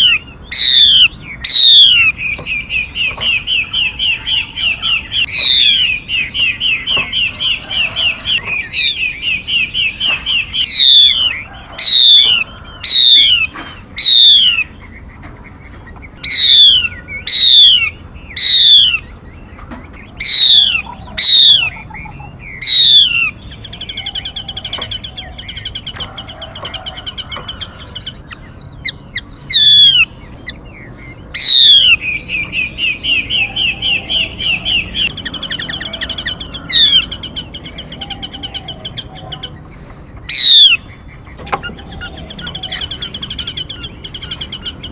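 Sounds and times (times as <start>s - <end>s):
songbird chirps and whistles: 0.0s - 44.9s.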